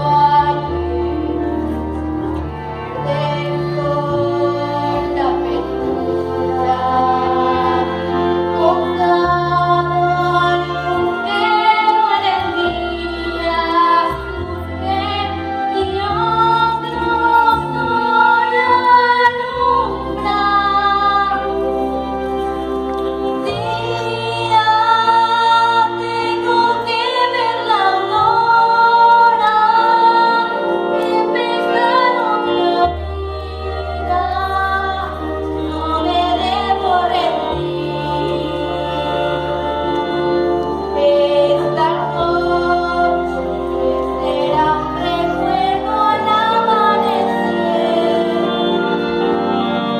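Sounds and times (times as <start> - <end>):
woman singing: 0.0 - 1.8, 2.8 - 22.2, 23.2 - 49.9.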